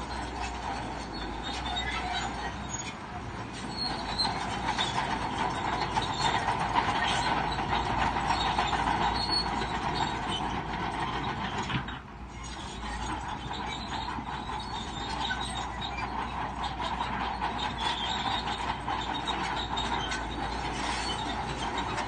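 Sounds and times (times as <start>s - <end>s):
bulldozer engine rumble: 0.0s - 22.0s
bulldozer tracks squealing and clanking: 0.0s - 22.0s.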